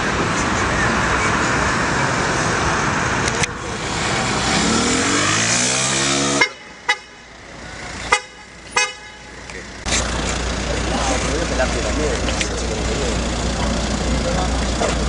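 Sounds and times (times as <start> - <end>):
car engine accelerating: 0.0 - 15.0
street traffic noise: 0.0 - 15.0.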